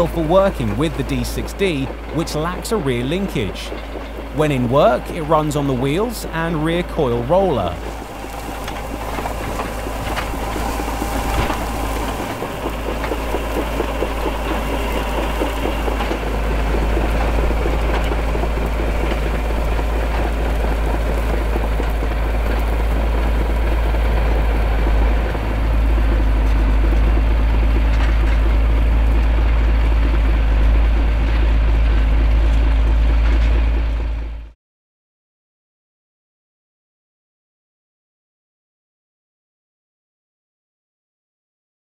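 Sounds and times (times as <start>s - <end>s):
diesel crawler engine under load: 0.0s - 34.6s.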